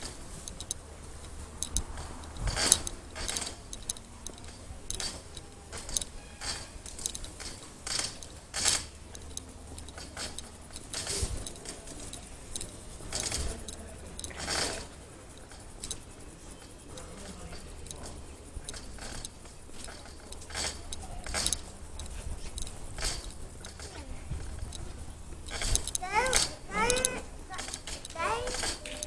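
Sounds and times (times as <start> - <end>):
bicycle rattling over bumps: 0.0 - 29.0
metal parts jangling: 0.0 - 29.0.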